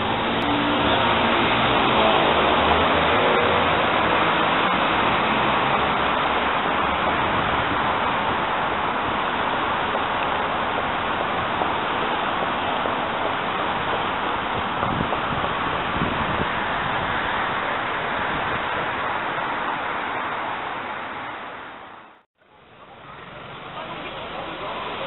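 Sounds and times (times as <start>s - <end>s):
busy city street traffic: 0.0s - 25.0s.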